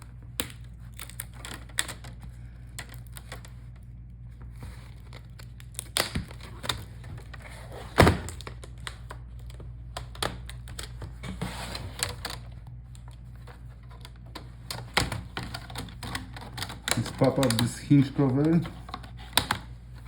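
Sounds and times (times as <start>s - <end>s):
plastic cracking: 0.0s - 20.0s.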